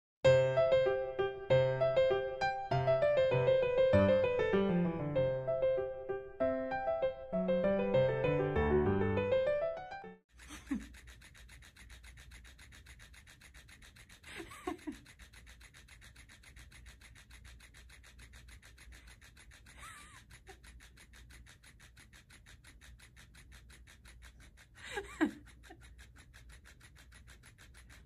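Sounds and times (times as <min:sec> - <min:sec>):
fast even ticking: 0:00.3 - 0:28.0.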